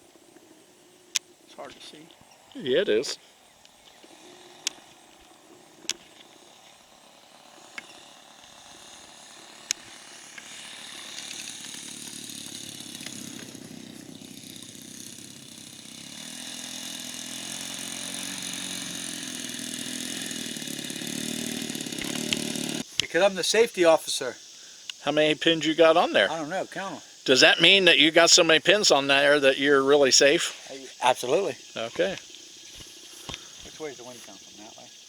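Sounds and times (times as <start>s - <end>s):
model airplane motor droning: 3.2s - 25.0s, 25.7s - 35.0s.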